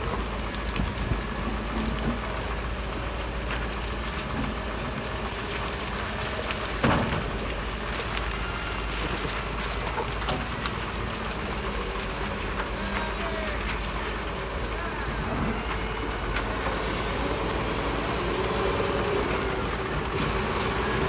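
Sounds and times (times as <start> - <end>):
fuel pouring into a tank: 0.0 - 21.0.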